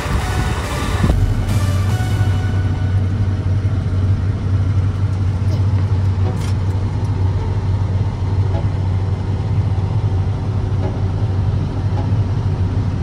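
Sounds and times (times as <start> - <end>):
combine engine and threshing drone: 0.0 - 13.0.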